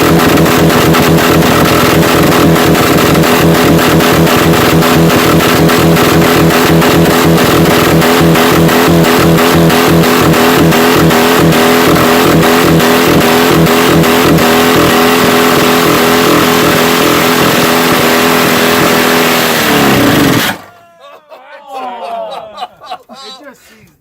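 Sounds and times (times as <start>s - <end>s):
engine at full throttle: 0.0s - 20.7s.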